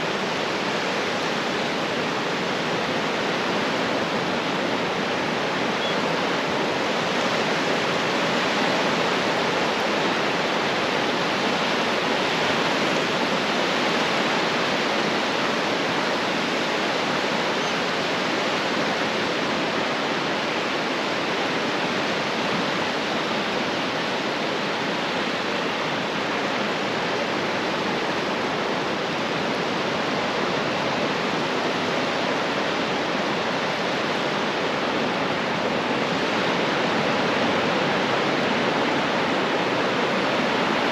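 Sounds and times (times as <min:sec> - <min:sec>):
ocean surf on a beach: 0:00.0 - 0:40.9.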